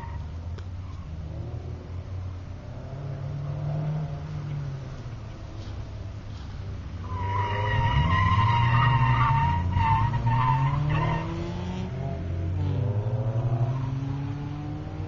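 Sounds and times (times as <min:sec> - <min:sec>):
car engine revving: 0:00.0 - 0:15.0
tires squealing: 0:00.0 - 0:15.0.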